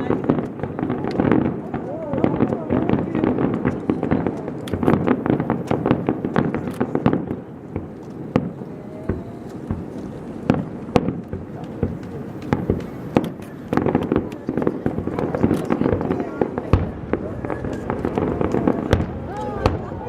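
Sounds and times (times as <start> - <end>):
firework booms: 0.0 - 20.0
fireworks bangs and crackles: 0.0 - 20.0.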